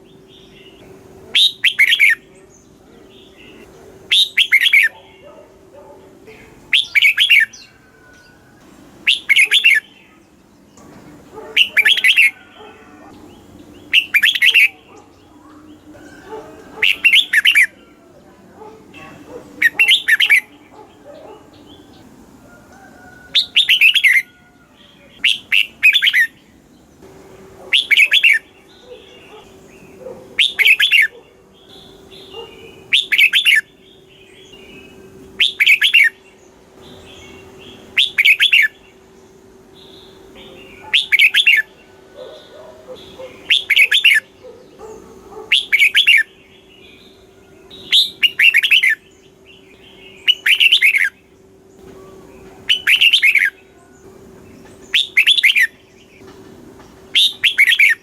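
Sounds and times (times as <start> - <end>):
bulbul singing: 0.0 - 58.0.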